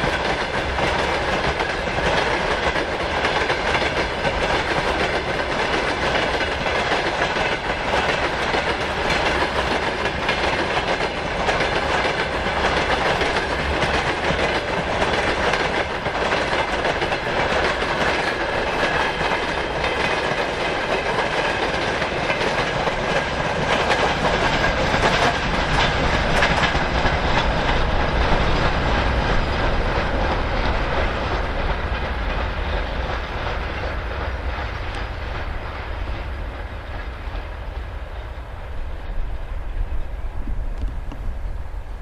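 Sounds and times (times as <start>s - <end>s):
train wheels clattering on rails: 0.0s - 42.0s.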